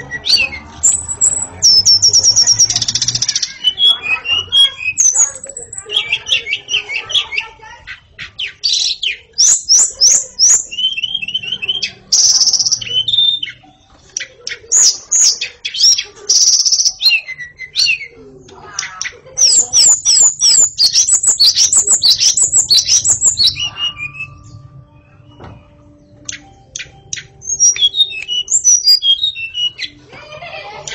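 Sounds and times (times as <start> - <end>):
songbird singing: 0.0 - 18.2, 18.9 - 30.0.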